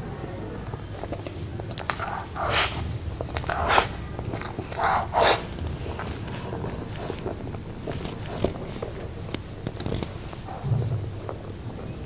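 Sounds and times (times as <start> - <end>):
person chewing cake: 0.6 - 10.6.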